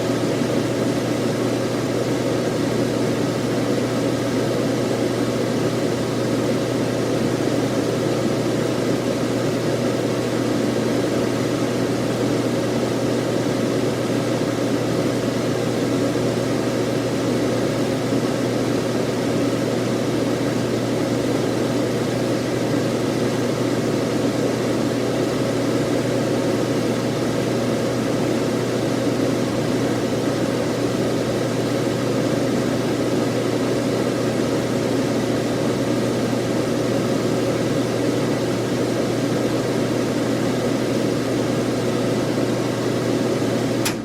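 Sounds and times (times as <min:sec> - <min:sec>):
exhaust fan running: 0:00.0 - 0:44.0.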